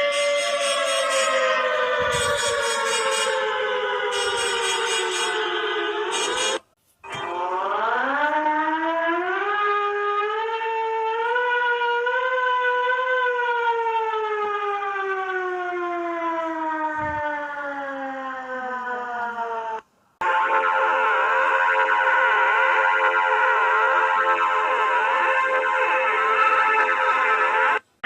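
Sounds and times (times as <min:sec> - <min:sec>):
air-raid siren wailing: 0:00.0 - 0:27.9.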